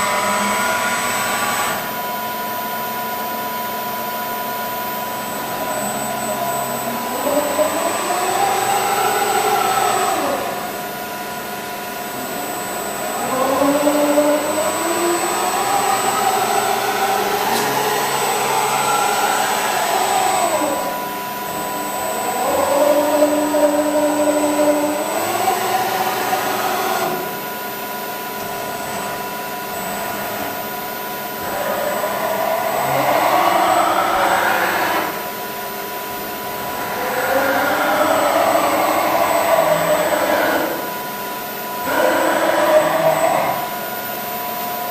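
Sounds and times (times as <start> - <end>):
milling machine motor whining: 0.0 - 44.9.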